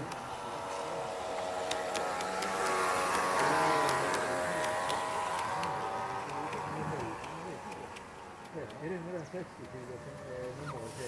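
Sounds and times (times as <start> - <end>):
electric motor whine: 0.0 - 11.0
wheels clicking on track: 0.0 - 11.0.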